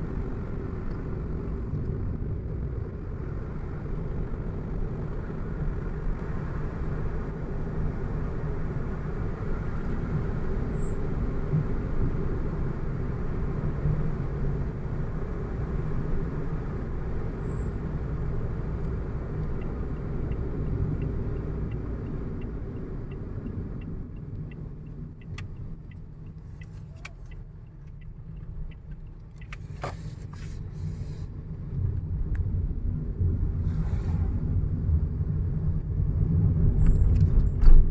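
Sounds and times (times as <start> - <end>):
car engine and road noise: 0.0 - 37.9.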